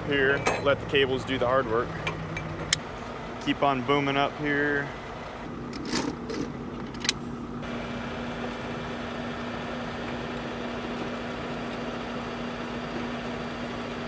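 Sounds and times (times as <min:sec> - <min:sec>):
tow truck engine humming: 0:00.0 - 0:14.0.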